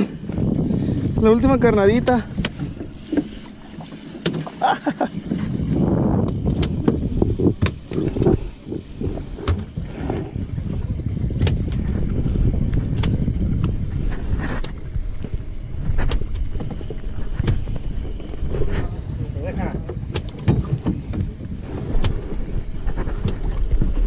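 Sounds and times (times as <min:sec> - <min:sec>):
boat noise: 0:00.0 - 0:24.0
low rumbling wind: 0:00.0 - 0:24.0.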